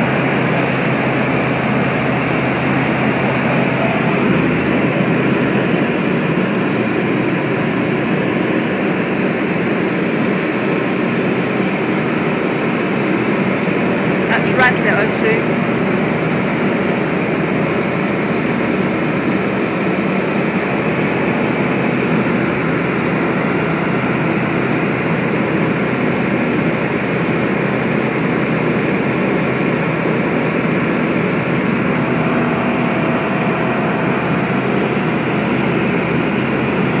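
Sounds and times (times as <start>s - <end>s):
small plane engine and propeller: 0.0s - 37.0s.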